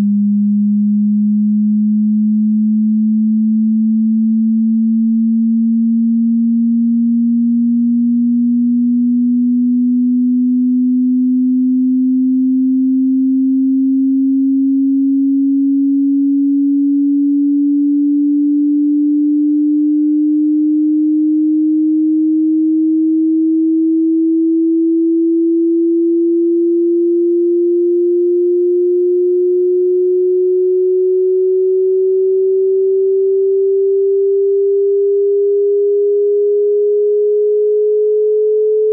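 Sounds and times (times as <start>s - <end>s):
rising sine test tone: 0.0s - 38.9s.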